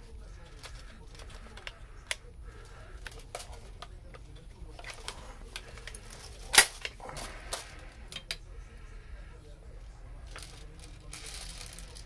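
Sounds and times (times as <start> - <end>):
faint ticks and handling noises: 0.0 - 12.0.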